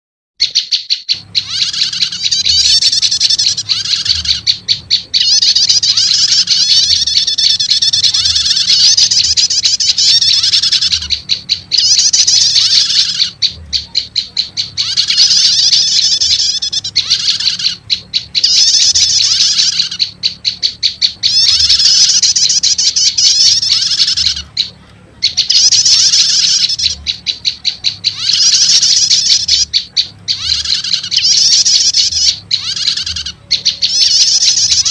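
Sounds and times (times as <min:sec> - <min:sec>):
small bird trilling calls: 0:00.4 - 0:34.9.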